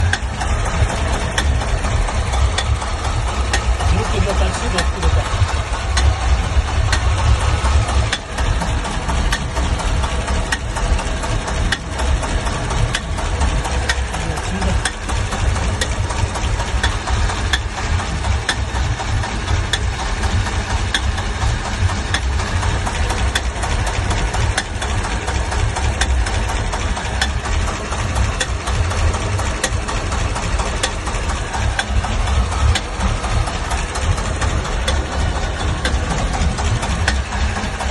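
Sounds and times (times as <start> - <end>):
engine idling with knock: 0.0 - 37.9.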